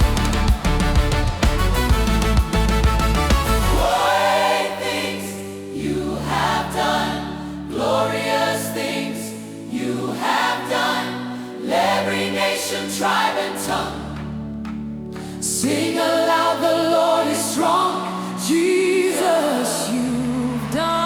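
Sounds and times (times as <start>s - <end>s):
gospel choir singing: 3.2s - 21.0s.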